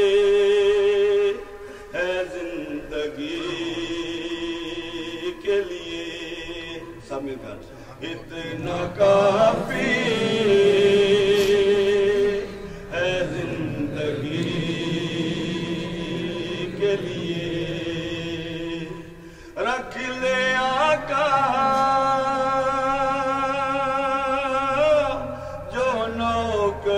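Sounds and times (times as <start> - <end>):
man chanting: 0.0 - 26.9.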